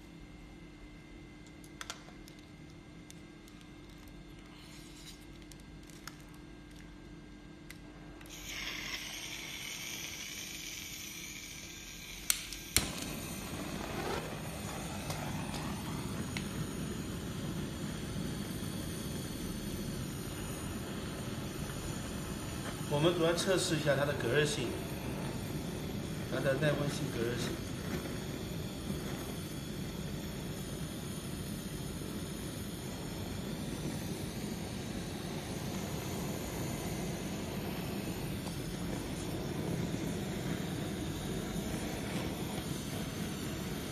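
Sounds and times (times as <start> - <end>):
torch igniter clicks: 1.4 - 4.2, 7.6 - 43.9
gas hissing from torch nozzle: 8.2 - 43.9
torch flame rushing: 8.3 - 43.9.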